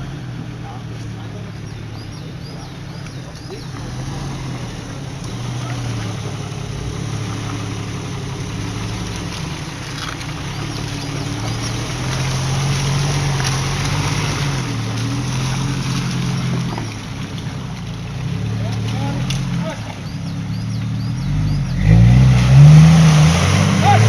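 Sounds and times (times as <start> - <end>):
off-road engine revving under load: 0.0 - 24.0.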